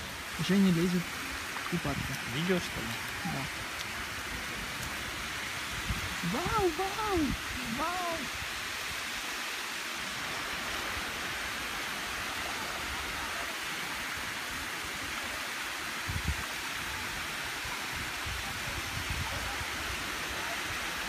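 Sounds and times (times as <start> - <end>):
water rushing over terraces: 0.0 - 21.0.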